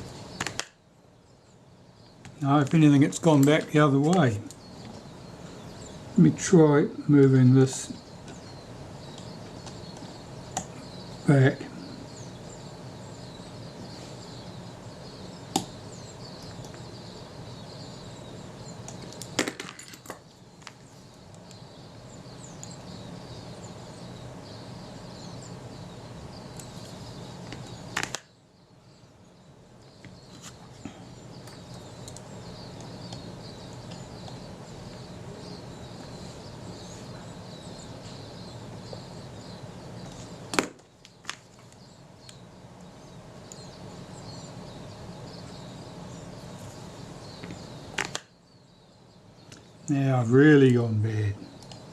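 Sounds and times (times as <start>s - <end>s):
faint chirping: 0.0s - 51.9s.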